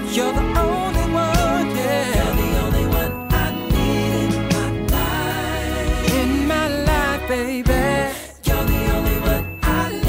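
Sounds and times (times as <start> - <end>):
person singing: 0.0 - 10.0
r and b song beat: 0.0 - 10.0.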